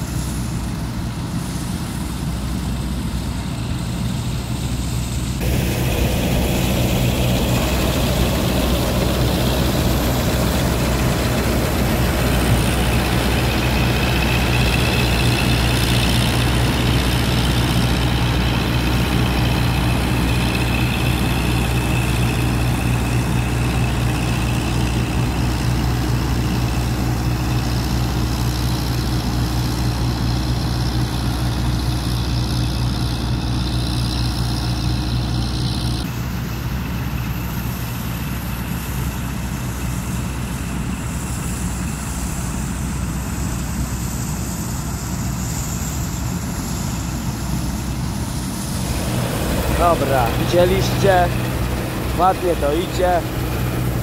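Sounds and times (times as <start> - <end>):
combine harvester droning: 0.0 - 54.0
high machinery whine: 0.0 - 54.0.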